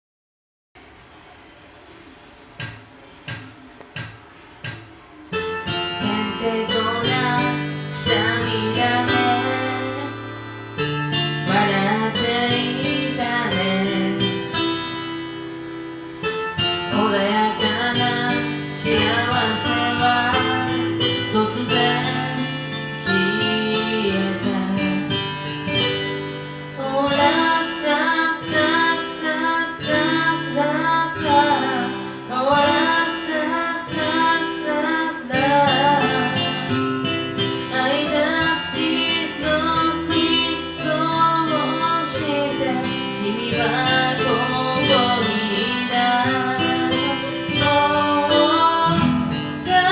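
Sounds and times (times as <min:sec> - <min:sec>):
acoustic guitar pop ballad: 0:02.6 - 0:49.9.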